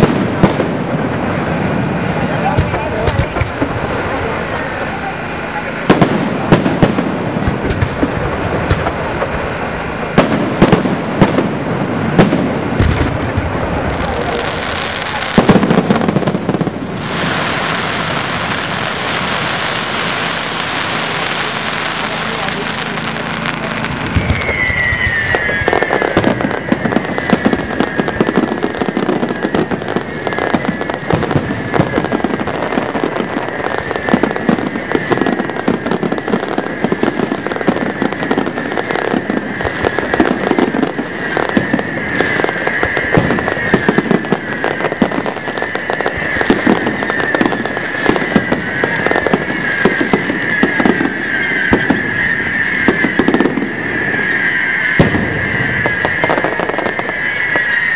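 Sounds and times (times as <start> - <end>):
fireworks bangs and crackling: 0.0 - 57.9
fireworks whistling: 0.0 - 57.9.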